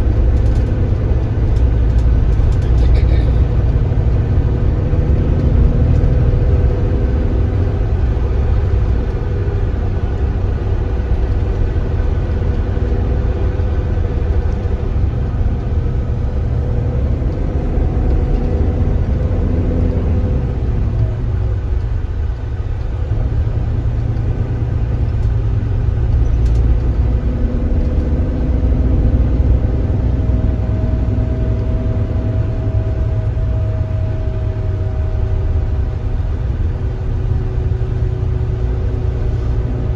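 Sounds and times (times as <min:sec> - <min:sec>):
bus engine low rumble: 0:00.0 - 0:39.9
faint engine whine: 0:00.0 - 0:39.9.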